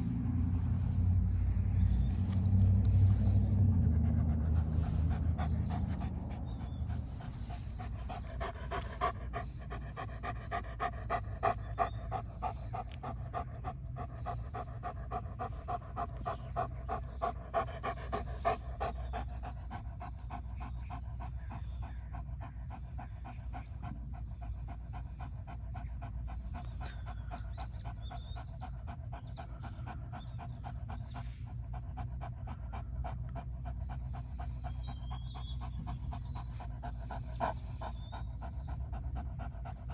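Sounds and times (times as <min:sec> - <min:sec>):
dog panting rapidly: 0:00.0 - 0:39.9.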